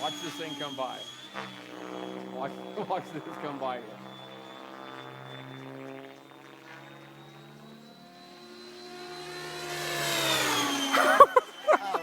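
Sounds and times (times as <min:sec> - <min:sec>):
model helicopter engine and rotor: 0:00.0 - 0:12.0.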